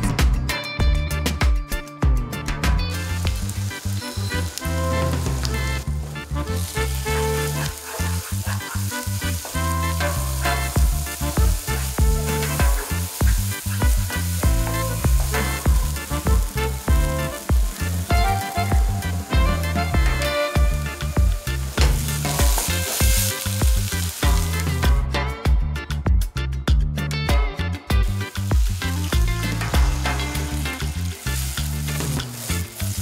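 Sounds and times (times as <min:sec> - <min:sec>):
background music with bass line: 0:00.0 - 0:33.0
spices sizzling in hot oil: 0:02.5 - 0:25.3, 0:27.3 - 0:33.0.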